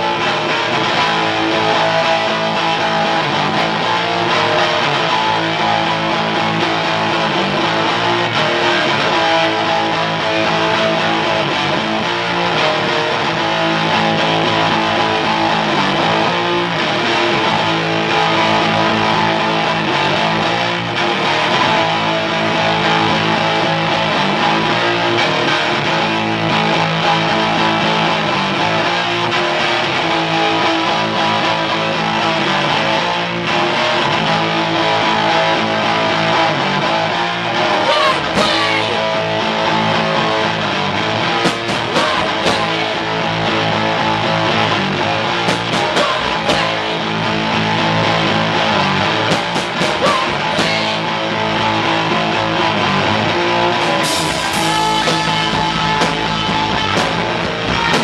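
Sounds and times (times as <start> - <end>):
electric guitars: 0.0 - 58.0
live rock band playing: 0.0 - 58.0.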